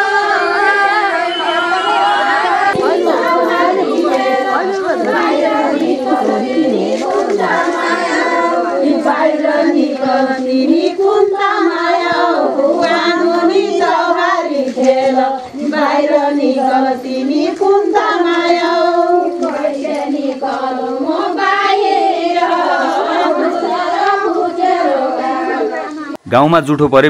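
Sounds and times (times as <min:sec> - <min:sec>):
women singing a folk song: 0:00.0 - 0:26.2.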